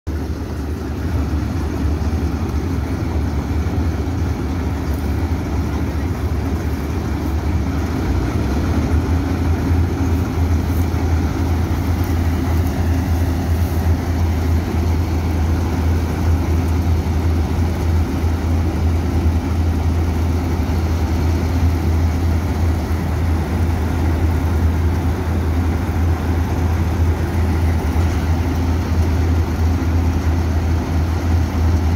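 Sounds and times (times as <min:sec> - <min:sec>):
combine harvester drone: 0:00.1 - 0:31.9.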